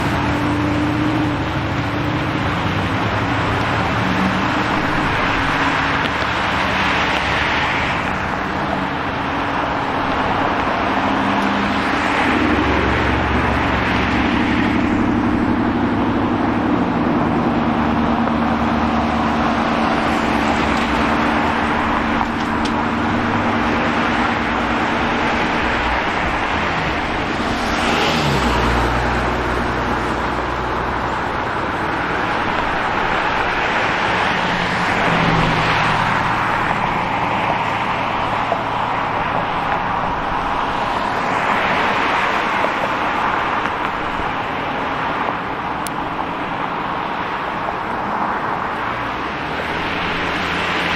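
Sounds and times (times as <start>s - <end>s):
low engine drone: 0.0s - 50.9s
vehicles passing by: 0.0s - 50.9s.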